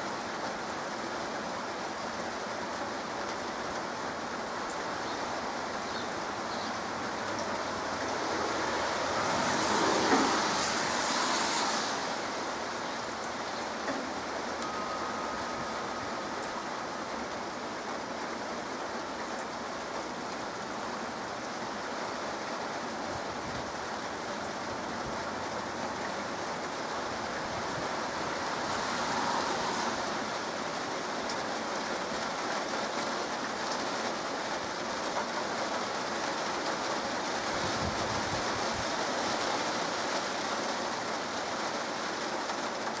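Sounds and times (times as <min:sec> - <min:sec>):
heavy rain hissing: 0:00.0 - 0:43.0.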